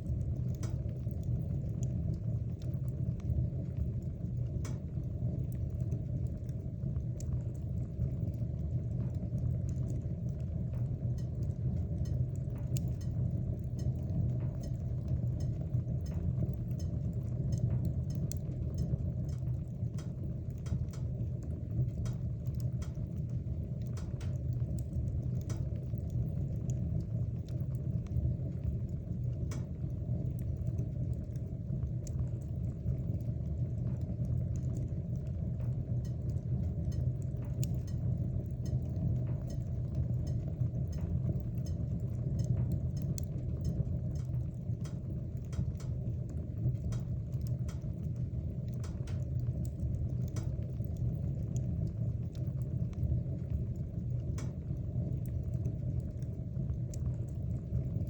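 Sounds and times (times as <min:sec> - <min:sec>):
wood fire burning: 0:00.0 - 0:58.0.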